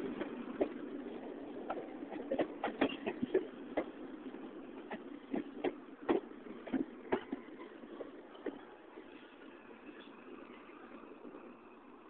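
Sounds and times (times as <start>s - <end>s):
wheels clacking on rail joints: 0.0s - 11.6s
subway train wheels rumbling: 0.0s - 12.0s.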